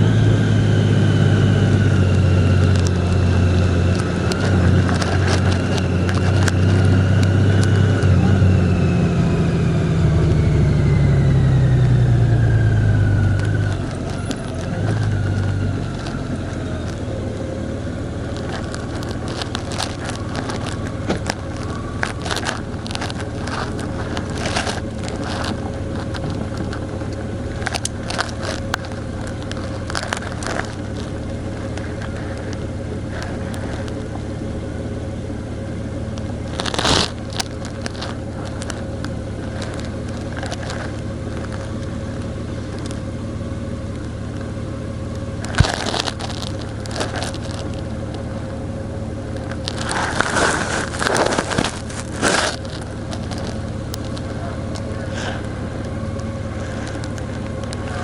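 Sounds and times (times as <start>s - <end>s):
vehicle engine running: 0.0s - 58.0s
sharp clicks and crackles: 0.2s - 58.0s.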